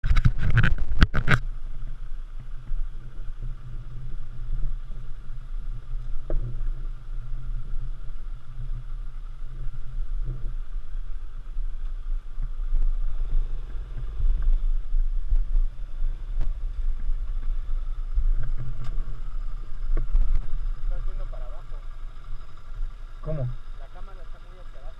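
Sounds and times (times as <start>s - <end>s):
off-road motorcycle running: 0.0s - 24.9s
wind rumble on microphone: 0.0s - 24.9s.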